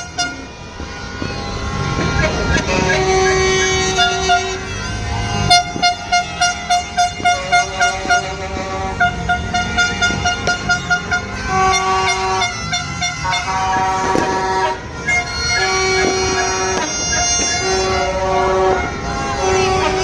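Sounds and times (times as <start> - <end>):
horn short toots: 0.0 - 20.0
horns long overlapping blasts: 0.0 - 20.0.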